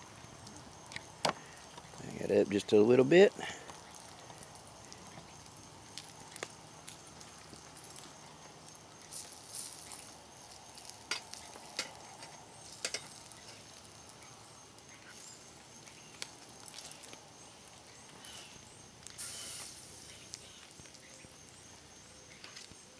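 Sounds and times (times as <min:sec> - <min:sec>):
food sizzling in a skillet: 0:00.0 - 0:22.8.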